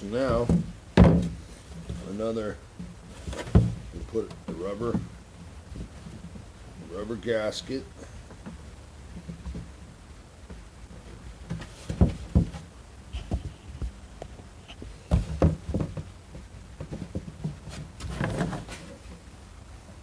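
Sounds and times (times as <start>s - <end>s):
scraping rustle: 0.0s - 20.0s.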